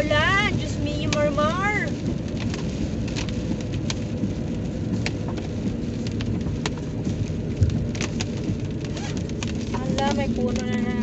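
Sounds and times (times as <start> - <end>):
heavy rain on car: 0.0 - 11.0
road and engine rumble: 0.0 - 11.0.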